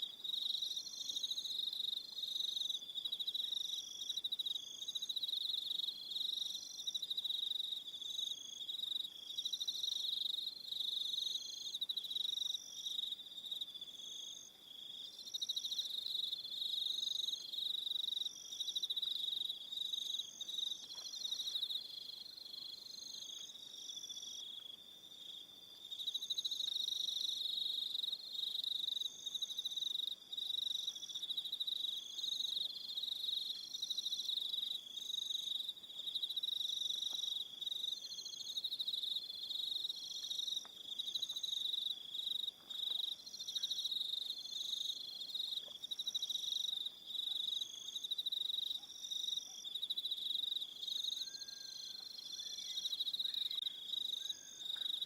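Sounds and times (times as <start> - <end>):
crickets trilling: 0.0 - 55.0
high cricket chirps: 0.0 - 55.0.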